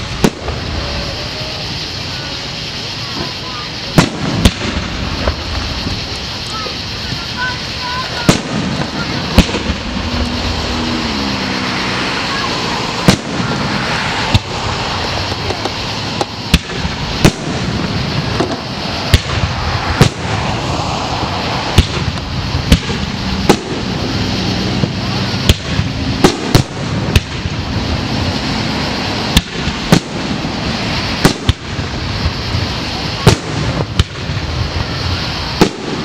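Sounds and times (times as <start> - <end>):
firework shells bursting: 0.0 - 36.0
steady background hiss: 0.0 - 36.0.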